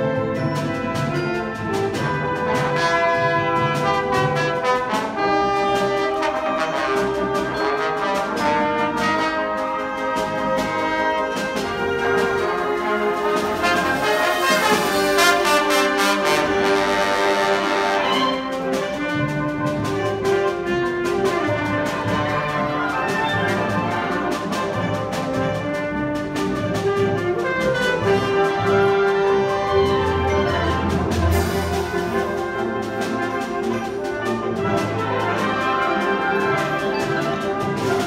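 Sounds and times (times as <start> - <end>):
percussion strikes: 0.0 - 38.0
solo trombone: 0.0 - 38.0
wind band accompaniment: 0.0 - 38.0.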